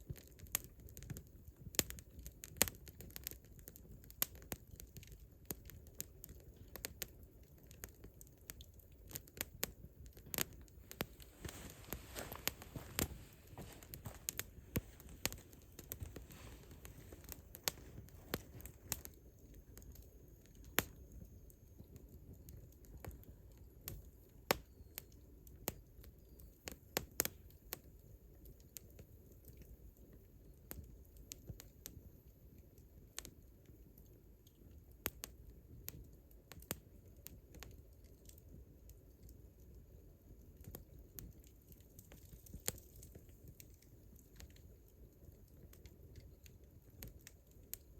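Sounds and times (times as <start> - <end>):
campfire wood crackling: 0.0 - 47.9
low fire rumble: 0.0 - 47.9.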